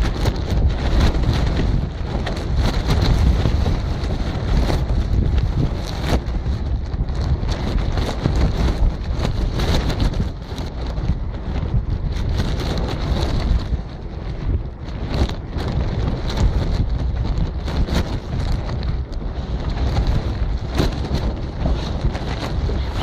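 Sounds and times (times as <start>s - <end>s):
crackles and clicks: 0.0s - 23.0s
gusty wind buffeting microphone: 0.0s - 23.0s.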